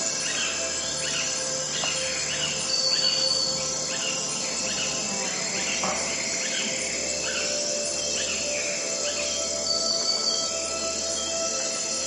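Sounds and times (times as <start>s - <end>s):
birds chirping: 0.0s - 11.3s
crickets trilling: 0.0s - 12.0s.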